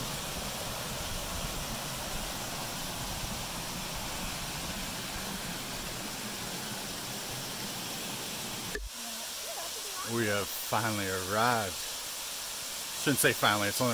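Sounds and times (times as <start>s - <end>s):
creek water rushing over rocks: 0.0s - 13.9s.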